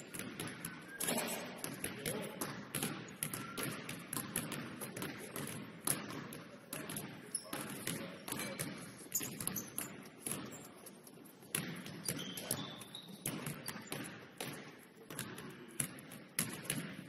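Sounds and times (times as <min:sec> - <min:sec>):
basketballs bouncing on wooden floor: 0:00.0 - 0:17.0.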